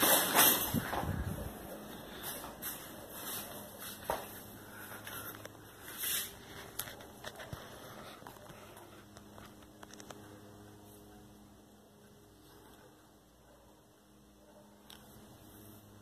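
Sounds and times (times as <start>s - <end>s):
ceiling fan humming: 0.0s - 16.0s.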